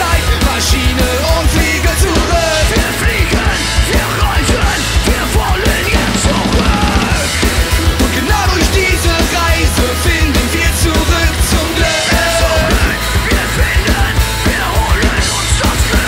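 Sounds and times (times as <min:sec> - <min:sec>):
shouted vocals: 0:00.0 - 0:07.4, 0:08.1 - 0:16.0
electric guitars: 0:00.0 - 0:16.0.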